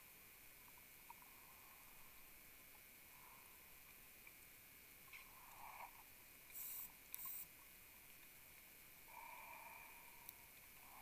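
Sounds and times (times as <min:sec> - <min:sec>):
faint steady underwater hiss: 0:00.0 - 0:11.0
faint ticks: 0:00.6 - 0:01.5, 0:02.1 - 0:11.0.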